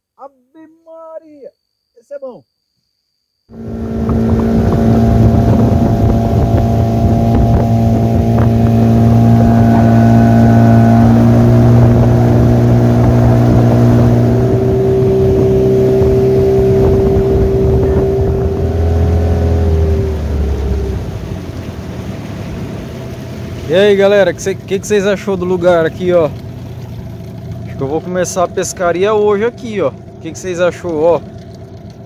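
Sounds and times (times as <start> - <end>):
outboard motor running: 3.5 - 32.0.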